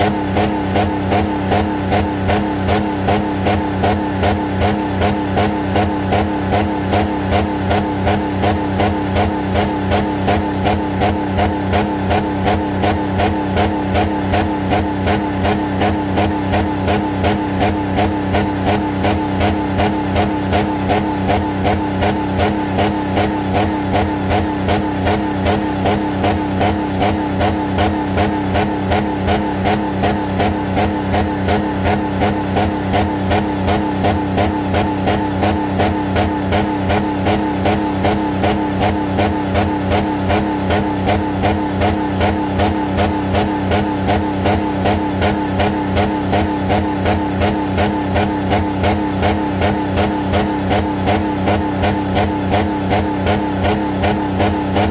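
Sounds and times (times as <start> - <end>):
pulsing engine running: 0.0 - 54.9.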